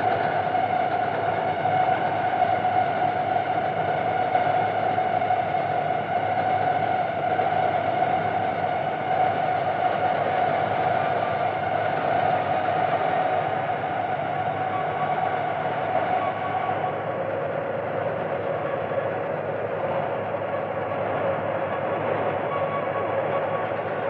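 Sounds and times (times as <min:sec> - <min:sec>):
dense noise music drone: 0:00.0 - 0:24.0.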